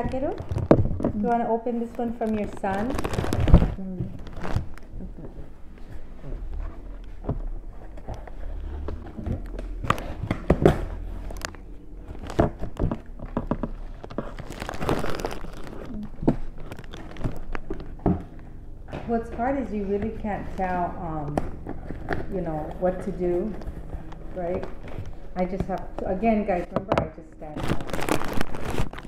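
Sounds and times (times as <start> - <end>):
cardboard rustling and scraping: 0.0 - 26.8, 27.4 - 29.0.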